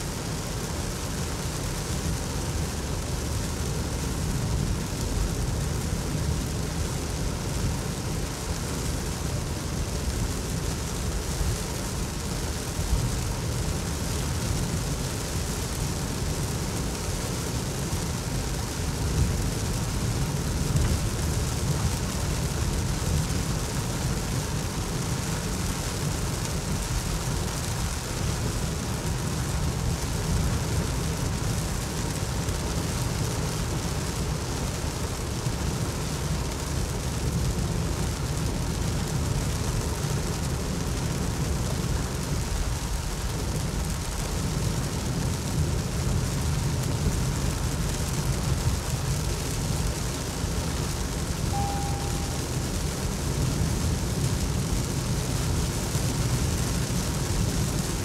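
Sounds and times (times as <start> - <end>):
heavy rain on windscreen: 0.0 - 58.0
car rumbling on wet highway: 0.1 - 58.0.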